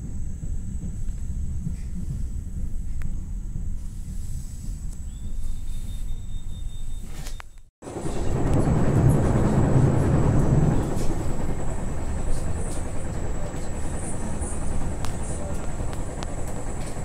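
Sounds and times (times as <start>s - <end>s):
train wheels rumbling on track: 0.0s - 7.0s, 7.8s - 17.0s.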